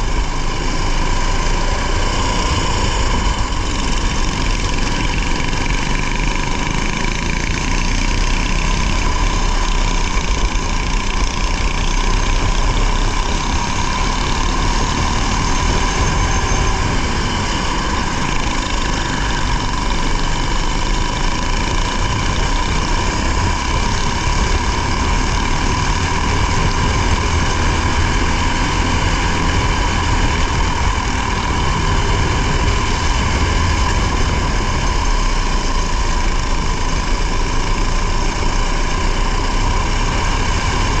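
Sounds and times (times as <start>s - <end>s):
racing car engine running: 0.0s - 41.0s.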